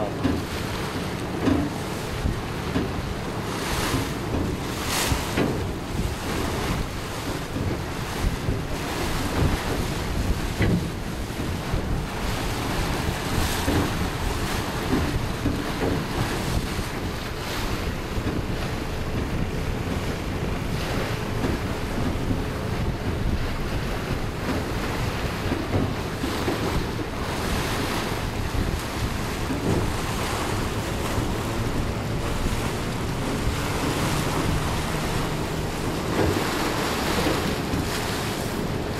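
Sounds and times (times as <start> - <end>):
water rushing along hull: 0.0 - 38.9
wind buffeting microphone: 0.0 - 38.9.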